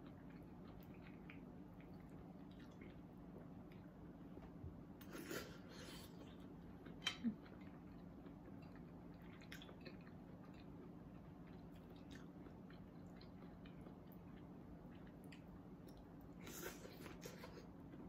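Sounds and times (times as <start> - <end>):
person chewing: 0.0 - 4.2, 5.0 - 18.0
steady low hum: 0.0 - 18.0.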